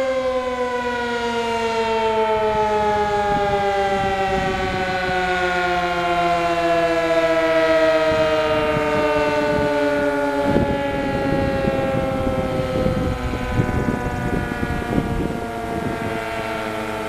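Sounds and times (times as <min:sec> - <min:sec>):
two-tone siren winding down: 0:00.0 - 0:17.0.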